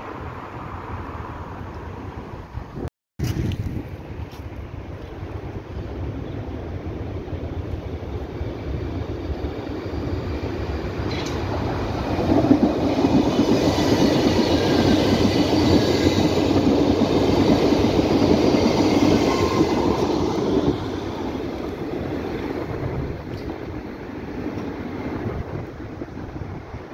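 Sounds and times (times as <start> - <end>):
train wheels rolling on rails: 5.0 - 26.9.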